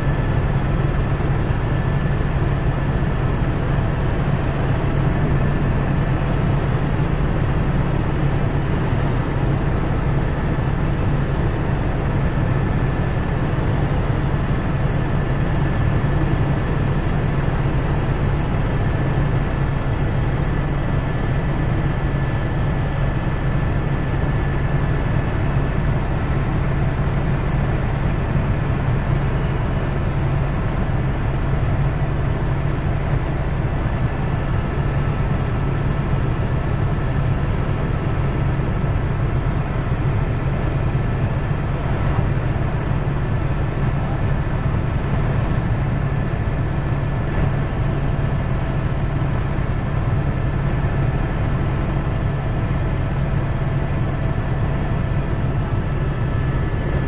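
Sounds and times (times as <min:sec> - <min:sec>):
helicopter rotor and engine noise: 0:00.0 - 0:57.0.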